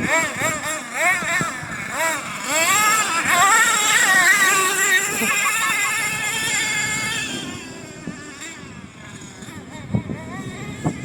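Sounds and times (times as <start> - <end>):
nitro engine revving: 0.0 - 11.0.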